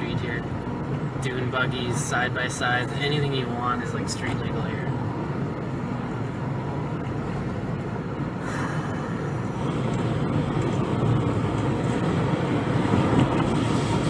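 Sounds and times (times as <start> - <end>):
camper van engine and road noise: 0.0 - 14.0.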